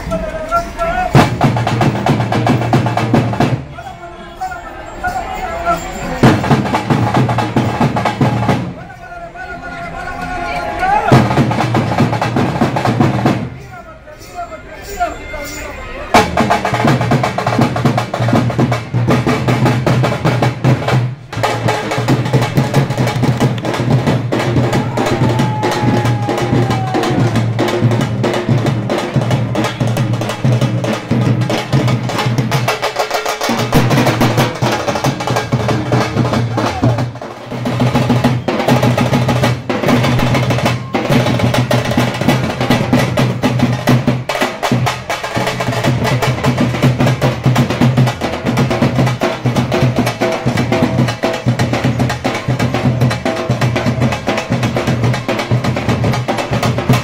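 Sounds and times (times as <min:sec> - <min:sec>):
fast frame drumming: 0:01.1 - 0:03.7, 0:06.2 - 0:08.8, 0:11.1 - 0:13.6, 0:16.1 - 0:57.0.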